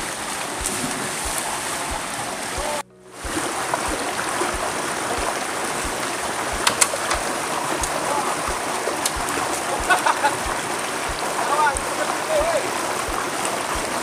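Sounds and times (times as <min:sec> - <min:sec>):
short sharp splashes: 0:00.0 - 0:14.0
water cascading over rocks: 0:00.0 - 0:14.0.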